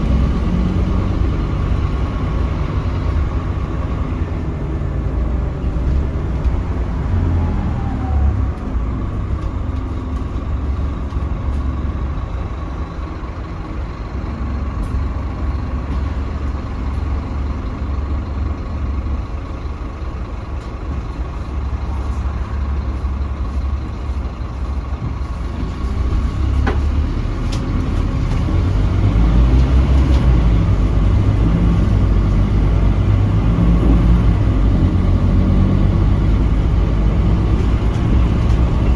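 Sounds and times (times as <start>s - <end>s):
bus diesel engine rumble: 0.0s - 38.9s
tyre and road noise: 0.0s - 38.9s.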